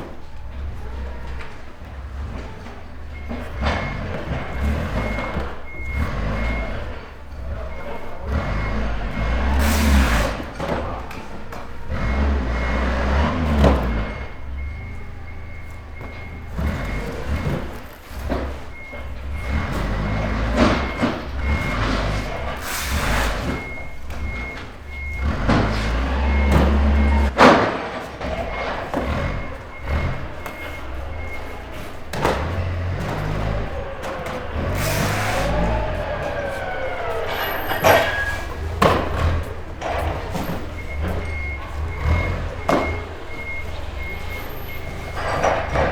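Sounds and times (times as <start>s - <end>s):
low engine rumble: 0.0s - 45.9s
reversing beeper: 0.0s - 45.9s.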